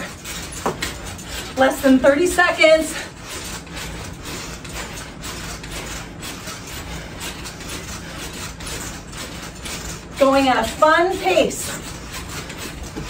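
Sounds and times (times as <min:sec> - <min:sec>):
trampoline creaking and thudding: 0:00.0 - 0:13.0.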